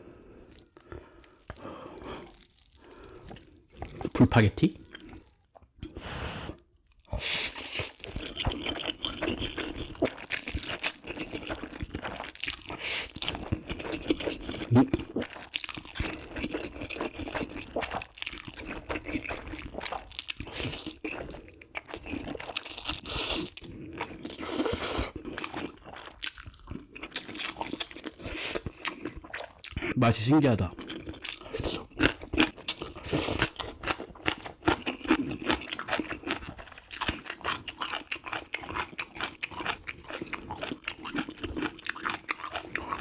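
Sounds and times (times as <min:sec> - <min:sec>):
slurping and chewing noodles: 0:00.0 - 0:43.0.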